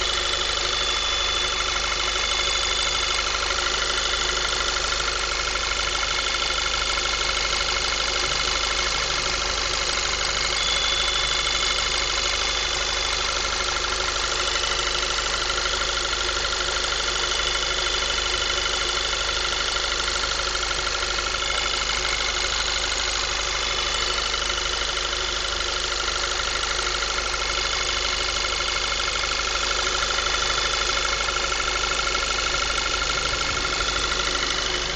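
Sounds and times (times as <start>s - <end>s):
car engine idling: 0.0s - 34.9s
steady high-pitched whine: 0.0s - 34.9s.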